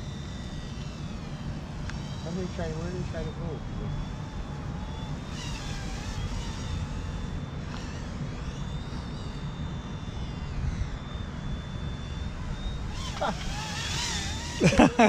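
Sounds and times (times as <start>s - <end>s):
toy helicopter rotor whine: 0.0s - 15.0s
wind rumble on microphone: 0.0s - 15.0s.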